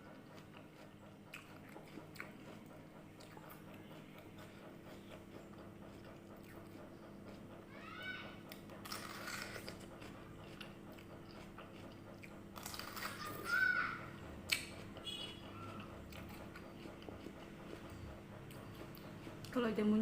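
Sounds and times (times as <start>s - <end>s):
crunchy fruit biting and chewing: 0.0s - 7.7s, 8.4s - 19.6s.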